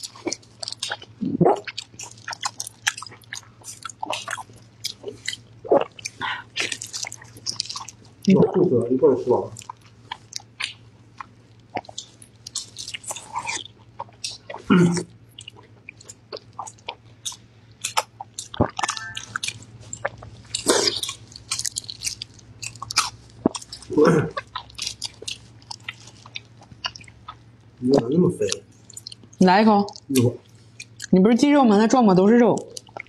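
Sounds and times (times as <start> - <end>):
wet chewing and lip smacks: 0.0 - 8.3, 9.5 - 27.8, 28.4 - 31.2, 32.6 - 33.0.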